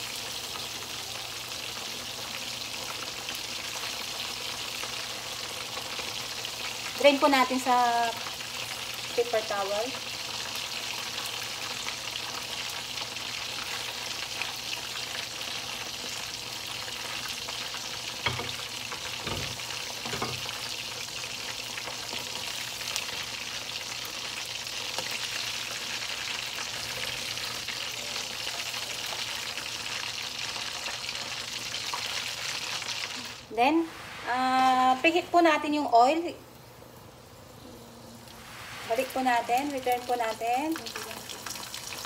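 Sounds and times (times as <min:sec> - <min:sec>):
chicken frying in hot oil: 0:00.0 - 0:34.9, 0:37.0 - 0:42.0.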